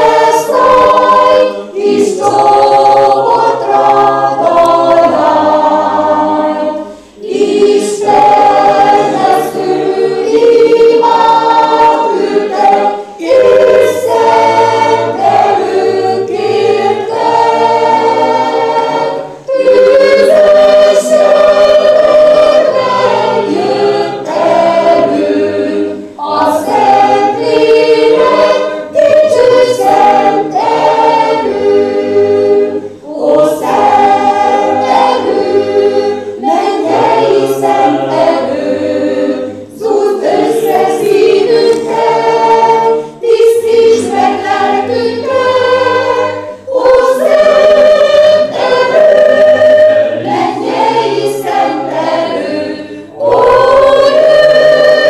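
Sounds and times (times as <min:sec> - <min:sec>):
choir singing sustained notes: 0:00.0 - 0:55.0.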